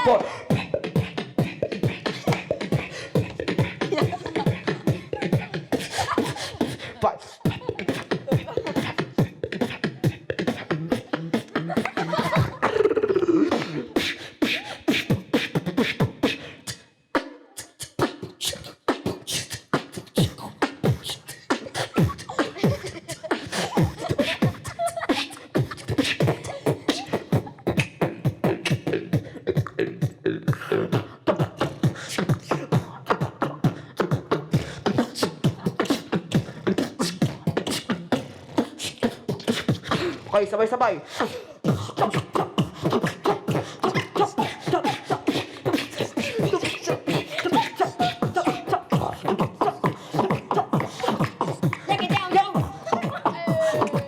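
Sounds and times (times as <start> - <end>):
beatboxing mouth percussion: 0.0 - 54.0.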